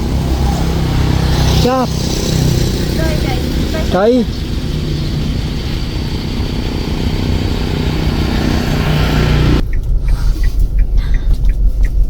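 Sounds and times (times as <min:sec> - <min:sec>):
motor running: 0:00.0 - 0:12.0.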